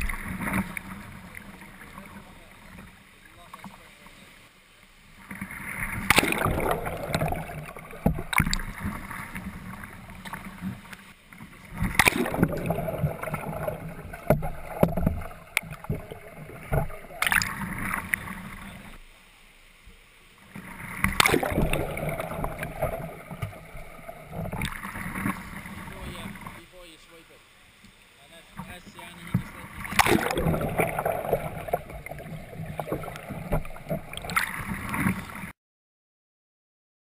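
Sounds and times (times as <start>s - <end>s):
pool water splashing: 0.0s - 35.5s.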